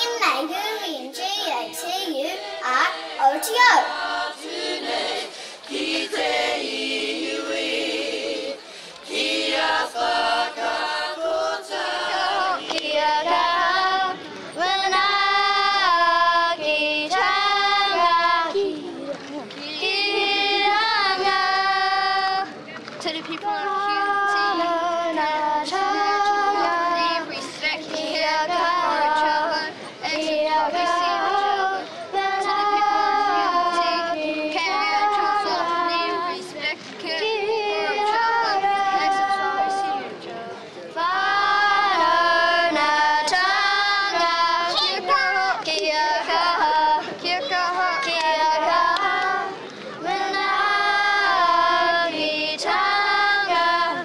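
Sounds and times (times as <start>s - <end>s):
children singing: 0.0s - 0.5s, 1.1s - 18.9s, 19.6s - 22.5s, 23.4s - 40.2s, 41.0s - 54.0s.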